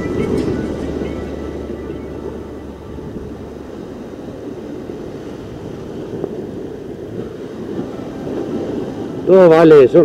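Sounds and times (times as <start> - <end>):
sea surf over rocks: 0.0 - 10.0
wind noise on microphone: 0.0 - 10.0.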